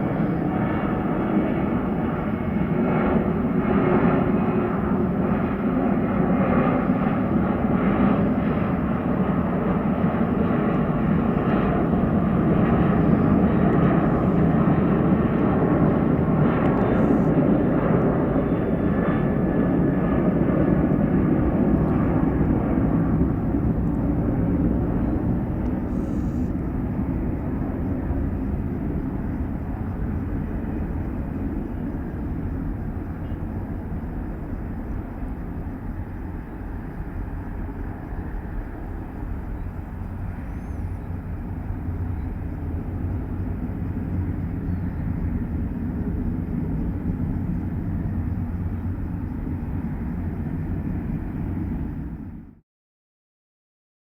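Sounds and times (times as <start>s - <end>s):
jet engines roaring at takeoff: 0.0s - 52.6s.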